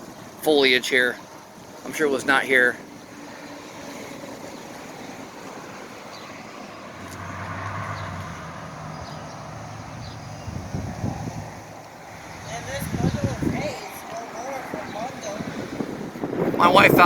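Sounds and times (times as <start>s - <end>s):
road traffic noise: 0.0s - 17.0s
vehicle passing by: 2.3s - 17.0s.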